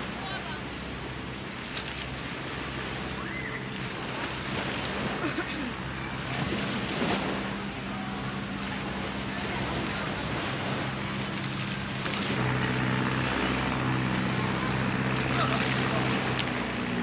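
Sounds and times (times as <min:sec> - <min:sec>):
boat engine running: 0:00.0 - 0:17.0
water noise: 0:00.0 - 0:17.0
wind: 0:00.0 - 0:17.0.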